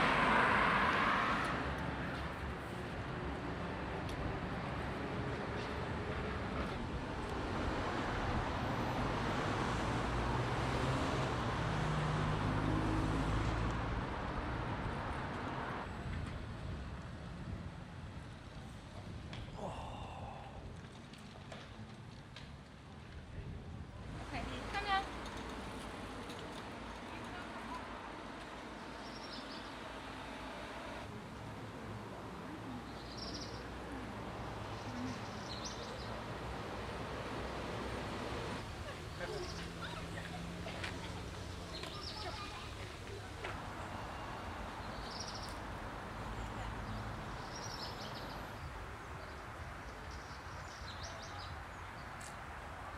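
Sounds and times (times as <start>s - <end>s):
motor vehicle passing: 0.0s - 2.8s, 4.4s - 16.0s, 24.0s - 52.9s
background hum and rush: 1.3s - 51.3s.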